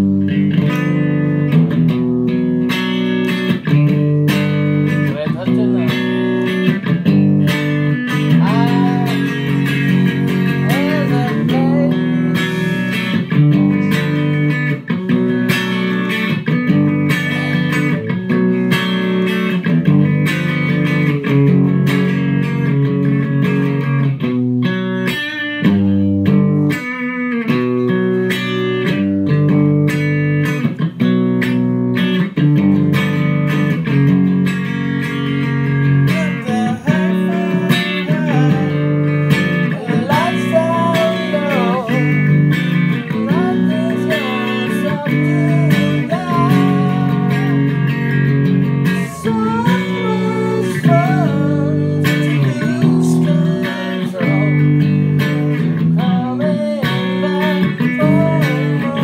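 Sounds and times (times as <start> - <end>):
electric guitar lead lines: 0.0 - 59.0.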